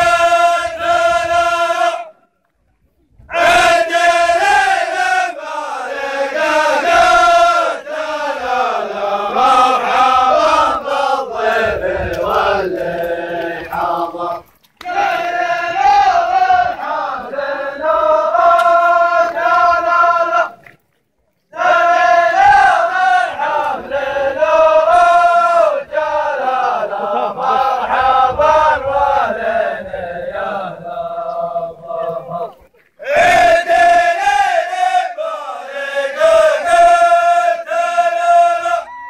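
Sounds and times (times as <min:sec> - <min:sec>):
group of men chanting: 0:00.0 - 0:02.2, 0:03.3 - 0:20.6, 0:21.5 - 0:38.9.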